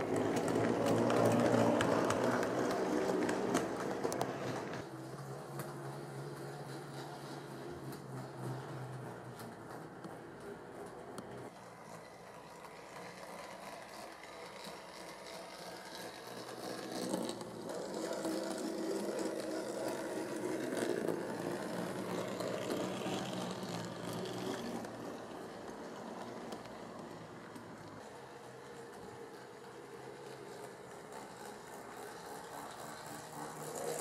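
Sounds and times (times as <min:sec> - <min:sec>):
model train motor whirring: 0:00.0 - 0:34.0
wheels clicking on rail: 0:00.0 - 0:34.0.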